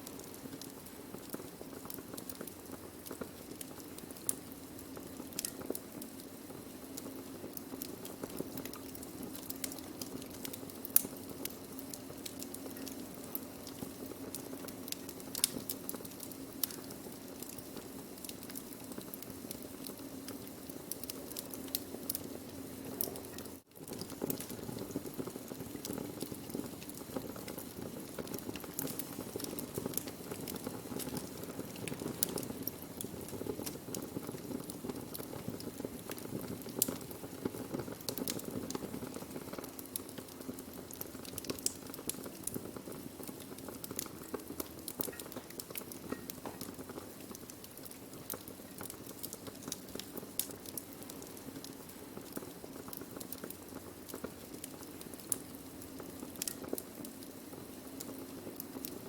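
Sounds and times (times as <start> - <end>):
wood crackling and popping: 0.0 - 59.0.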